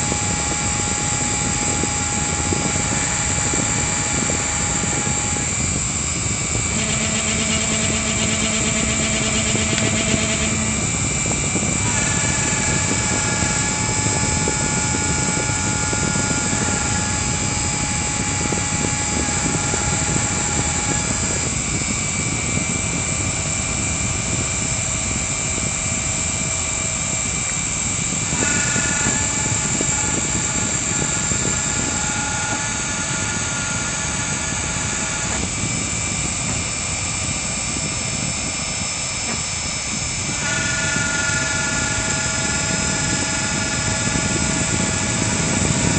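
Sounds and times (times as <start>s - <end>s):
machine whining tones: 0.0s - 45.9s
router spindle motor grinding: 0.0s - 45.9s.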